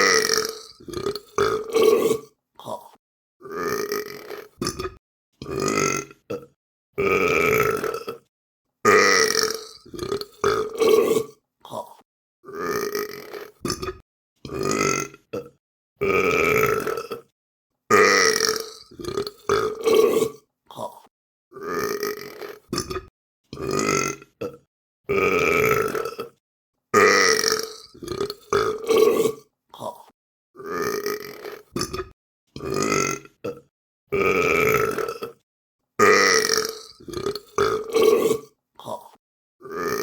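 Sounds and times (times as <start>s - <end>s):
person burping: 0.0s - 8.3s, 8.9s - 17.3s, 17.9s - 26.4s, 27.0s - 35.4s, 36.0s - 40.0s.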